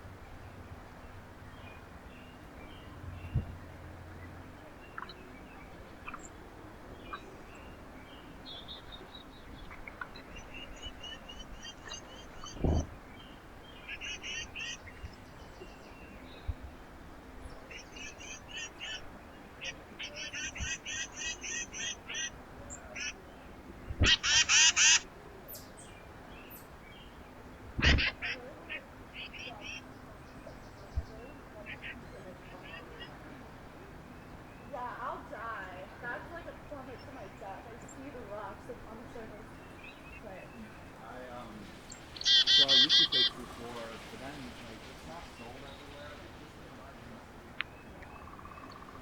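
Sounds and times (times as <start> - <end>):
small birds chirping: 0.0 - 49.0
steady low background noise: 0.0 - 49.0.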